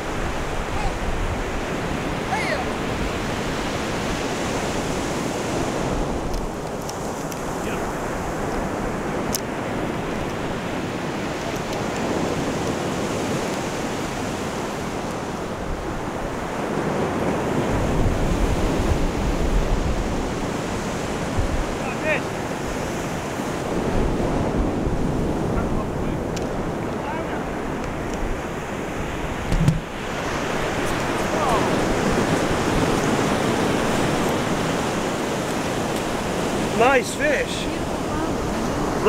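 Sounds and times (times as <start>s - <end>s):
waves breaking on beach: 0.0s - 39.0s
wind buffeting microphone: 0.0s - 39.0s.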